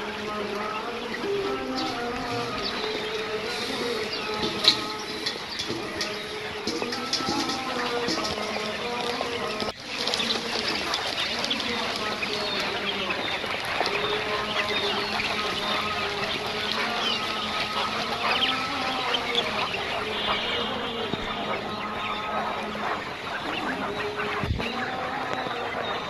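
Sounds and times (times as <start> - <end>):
young quails chirping: 0.0 - 26.0.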